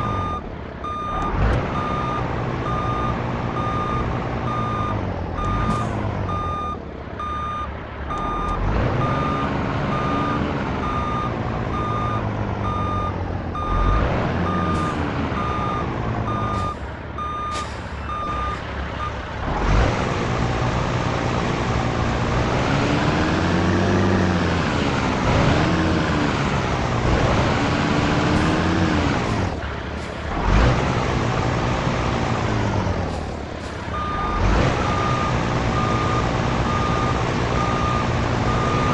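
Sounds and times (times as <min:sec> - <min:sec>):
truck diesel engine revving: 0:00.0 - 0:38.9.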